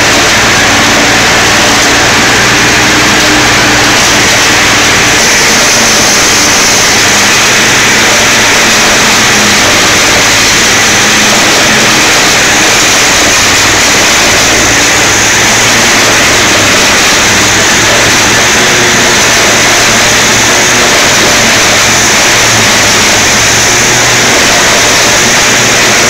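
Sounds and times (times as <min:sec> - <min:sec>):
bale shredder rotor tearing silage: 0:00.0 - 0:26.0
tractor engine running: 0:00.0 - 0:26.0.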